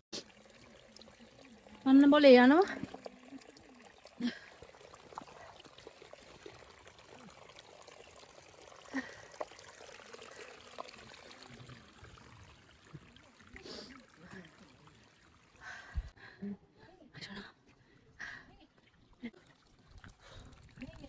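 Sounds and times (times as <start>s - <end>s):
water trickling over rocks: 0.1s - 16.2s, 18.6s - 21.0s.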